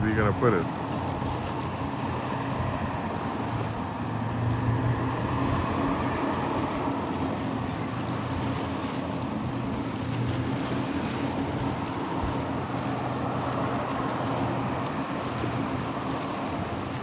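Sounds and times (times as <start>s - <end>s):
distant engine hum: 0.0s - 17.0s
wind and waves rushing: 0.0s - 17.0s
wind buffeting microphone: 0.0s - 17.0s.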